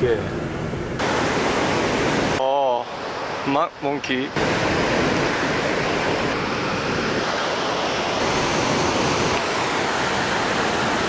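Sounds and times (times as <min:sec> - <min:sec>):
rush of falling water: 0:01.0 - 0:11.0.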